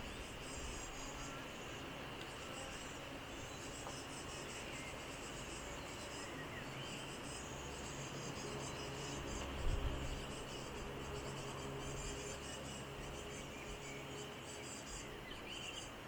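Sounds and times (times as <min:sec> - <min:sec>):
background hiss: 0:00.0 - 0:16.0
insects chirring: 0:00.0 - 0:16.0.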